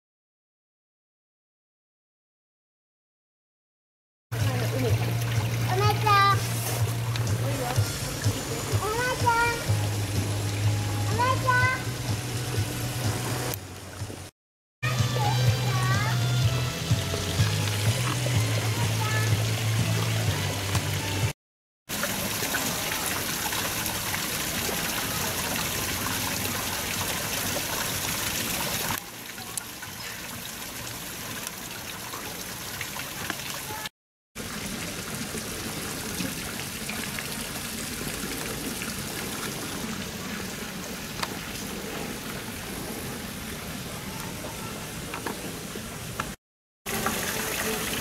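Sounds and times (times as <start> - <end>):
running water rushing: 4.4 - 48.0.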